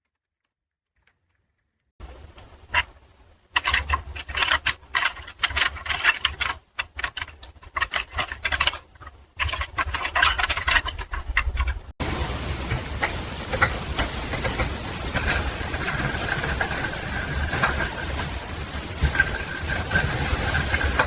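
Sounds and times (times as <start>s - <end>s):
clicking and scraping: 2.4s - 21.0s.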